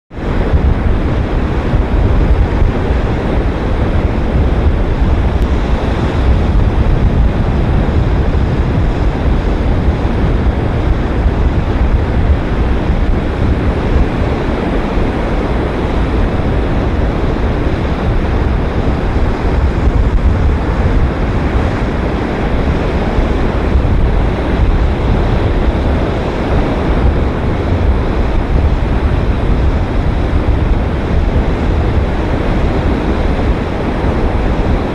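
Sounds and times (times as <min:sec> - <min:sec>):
waves breaking on sandy beach: 0:00.1 - 0:34.9.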